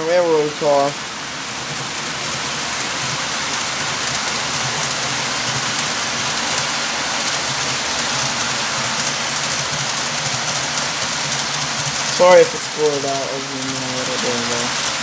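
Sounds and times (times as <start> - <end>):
model train wheels rattling: 0.0 - 15.0.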